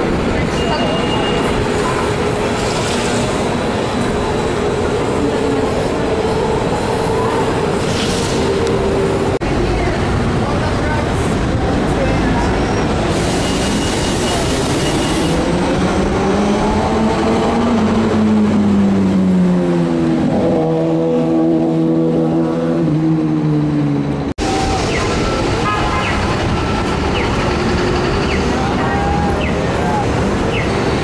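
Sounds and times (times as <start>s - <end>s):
bus engine: 0.0s - 31.0s
traffic noise: 0.0s - 31.0s.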